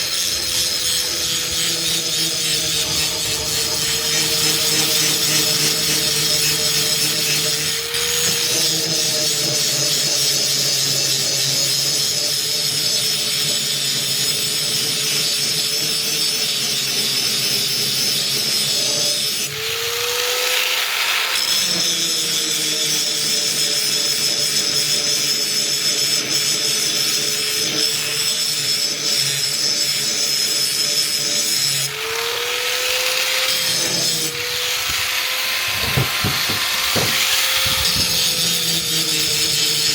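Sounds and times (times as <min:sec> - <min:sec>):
power grinder grinding metal: 0:00.0 - 0:39.9.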